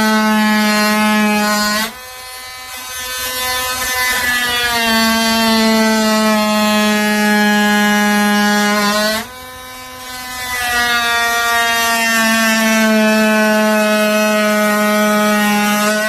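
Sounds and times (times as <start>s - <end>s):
oscillating multi-tool buzzing: 0.0s - 16.0s.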